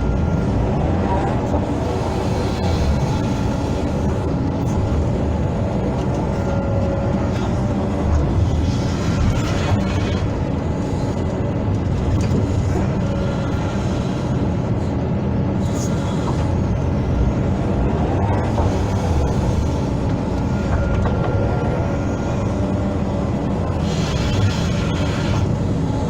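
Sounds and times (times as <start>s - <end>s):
excavator diesel engine rumbling: 0.0s - 26.0s.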